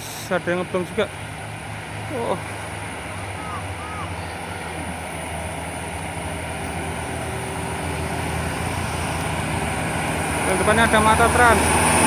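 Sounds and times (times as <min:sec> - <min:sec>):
diesel bus engine drone: 0:00.0 - 0:12.0.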